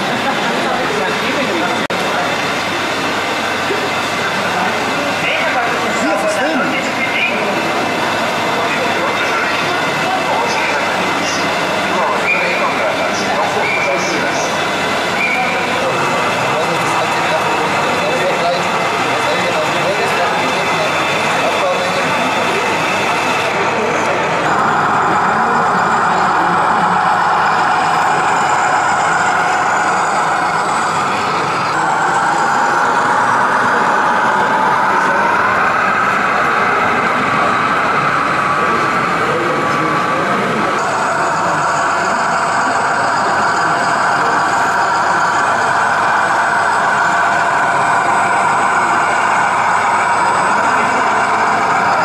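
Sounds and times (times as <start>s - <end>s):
model tractor engine drone: 0.0s - 52.0s.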